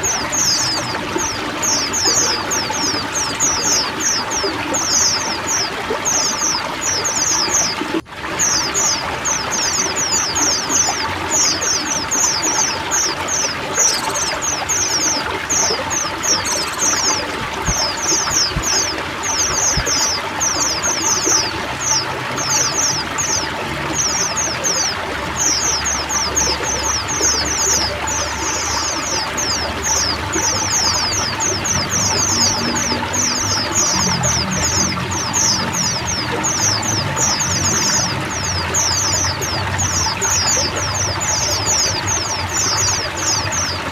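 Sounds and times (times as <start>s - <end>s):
birds chattering high chirps: 0.0s - 43.9s
water pouring and trickling: 0.0s - 43.9s.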